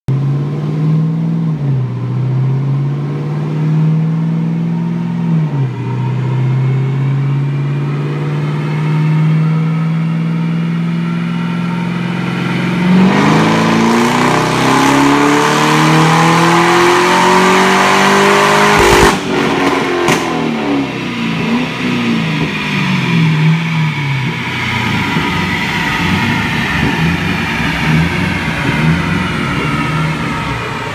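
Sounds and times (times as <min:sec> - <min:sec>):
car engine revving on dyno: 0:00.1 - 0:30.9.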